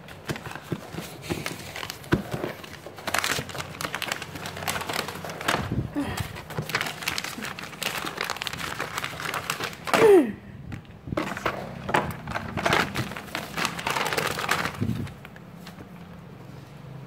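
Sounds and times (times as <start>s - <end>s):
paper rustling and crinkling: 0.0s - 10.1s, 10.7s - 16.6s.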